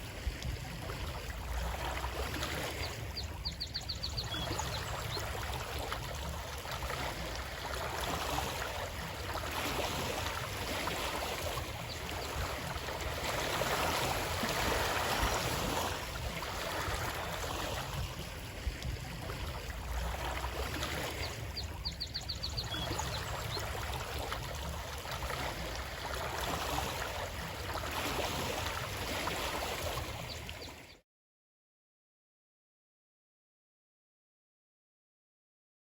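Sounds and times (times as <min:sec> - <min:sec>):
stream flowing and trickling: 0:00.0 - 0:31.0.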